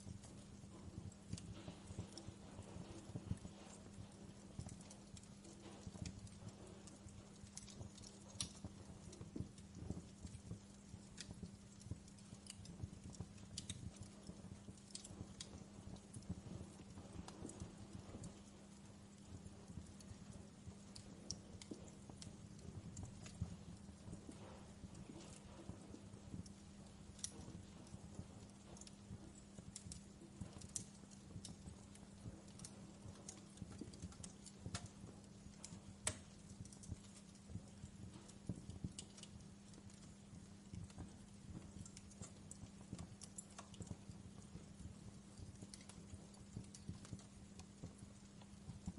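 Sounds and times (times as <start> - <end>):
faint steady hum: 0.0 - 48.9
soft low rumble: 0.0 - 48.9
wood fire crackling: 0.0 - 48.9.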